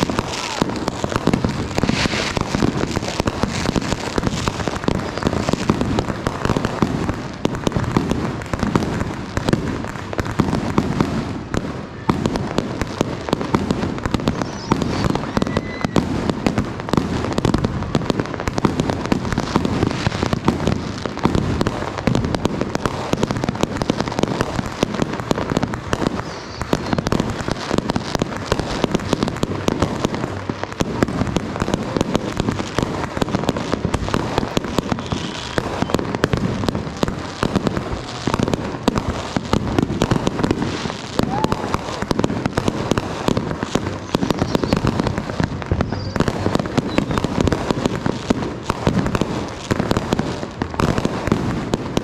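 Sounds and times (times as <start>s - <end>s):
fireworks crackling and popping: 0.0s - 52.0s.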